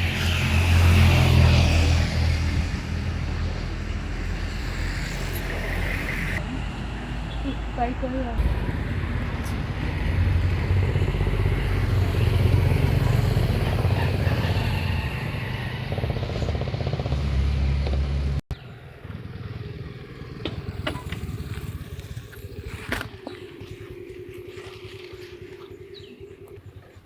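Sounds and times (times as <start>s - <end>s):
motorcycle engine and wind rumble: 0.0s - 6.4s, 7.4s - 27.0s
outdoor background: 0.0s - 27.0s.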